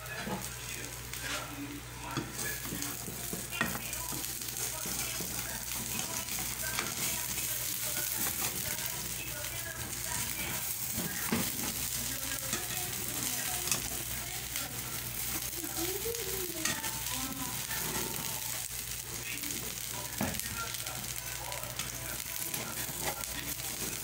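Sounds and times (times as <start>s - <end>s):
omelette sizzling in a frying pan: 0.0s - 24.0s.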